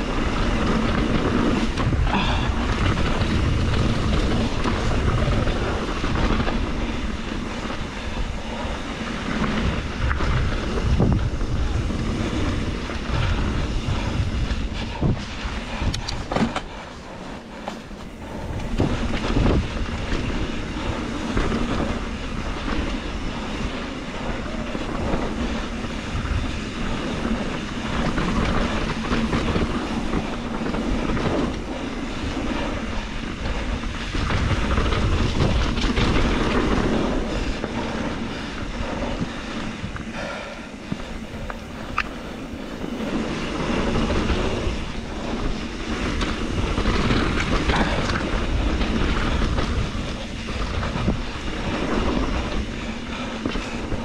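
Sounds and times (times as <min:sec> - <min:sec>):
bike rattling and clattering: 0:00.0 - 0:54.0
bike tyres rumbling over dirt: 0:00.0 - 0:54.0.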